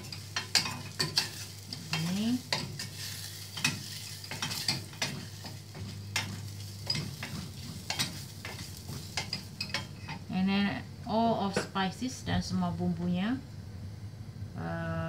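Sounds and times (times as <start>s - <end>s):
faint sizzle in oil: 0.0s - 13.5s.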